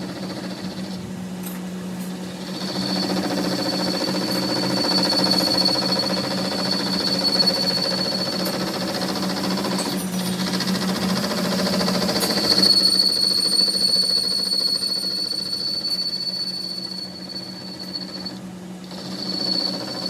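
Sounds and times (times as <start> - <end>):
workshop machine running: 0.0 - 20.0.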